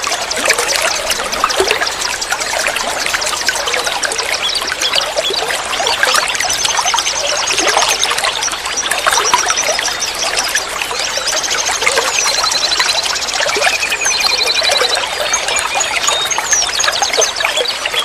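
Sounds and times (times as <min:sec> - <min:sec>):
stream trickling and babbling: 0:00.0 - 0:18.0
songbird high-pitched trill: 0:03.2 - 0:18.0.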